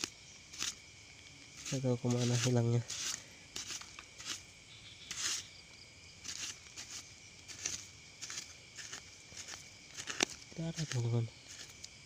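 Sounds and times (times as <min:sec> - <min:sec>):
fingers scraping through soil: 0:00.0 - 0:05.6, 0:06.2 - 0:12.0
high insect drone: 0:00.0 - 0:12.0.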